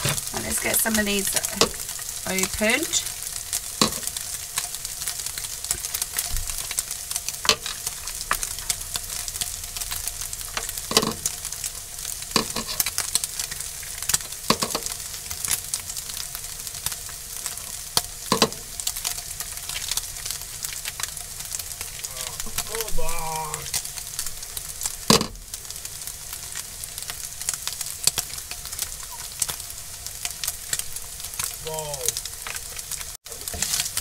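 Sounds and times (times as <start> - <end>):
meat sizzling in a frying pan: 0.0 - 34.0.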